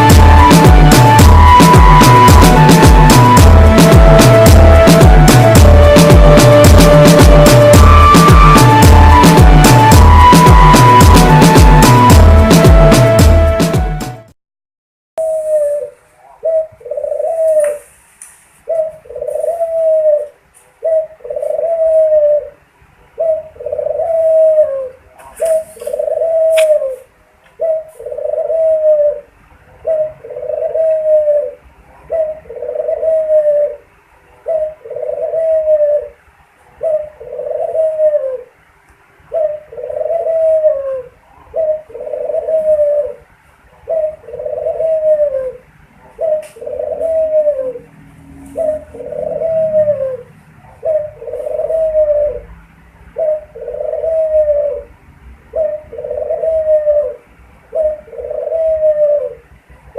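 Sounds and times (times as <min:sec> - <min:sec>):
dove cooing: 0:00.0 - 0:12.7, 0:15.2 - 0:18.0, 0:18.6 - 0:38.6, 0:39.3 - 0:59.9.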